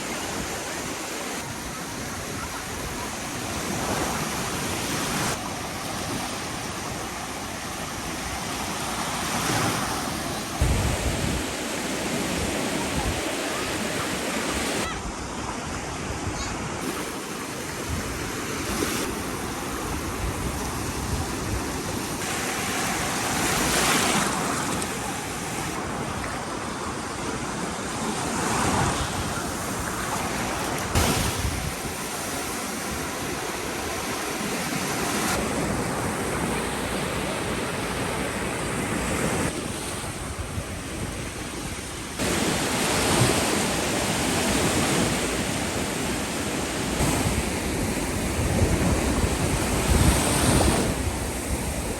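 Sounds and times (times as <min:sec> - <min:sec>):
sea surf washing onto beach: 0:00.0 - 0:51.9.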